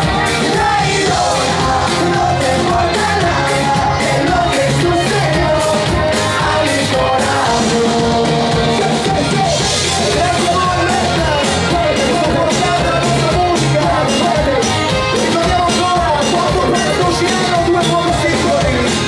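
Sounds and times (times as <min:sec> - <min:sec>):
bass guitar: 0:00.0 - 0:19.0
distorted electric guitar: 0:00.0 - 0:19.0
drums: 0:00.0 - 0:19.0
person singing: 0:00.0 - 0:19.0.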